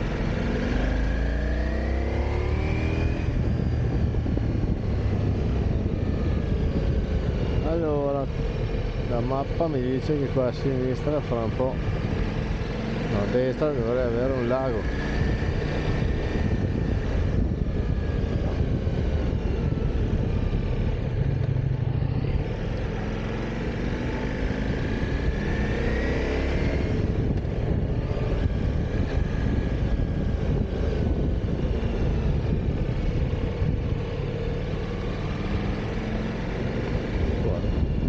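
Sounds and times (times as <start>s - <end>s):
motorcycle engine running: 0.0s - 38.0s
wind rushing over microphone: 0.0s - 38.0s.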